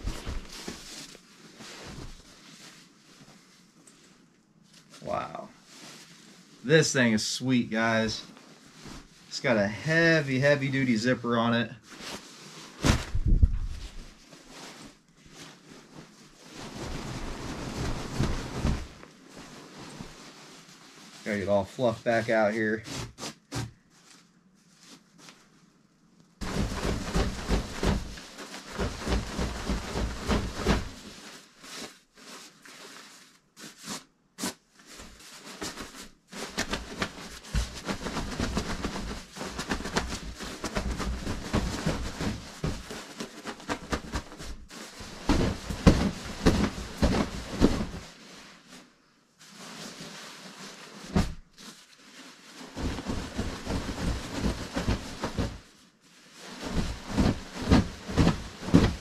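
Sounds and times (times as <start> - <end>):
sleeping bag fabric rustling: 0.0 - 10.9, 11.8 - 22.4, 23.0 - 59.0.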